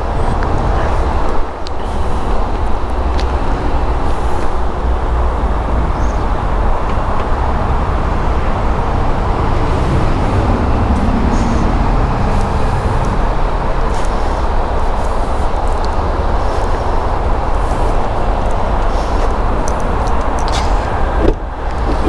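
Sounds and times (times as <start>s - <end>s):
low rumble of motor vehicle: 0.0s - 22.0s.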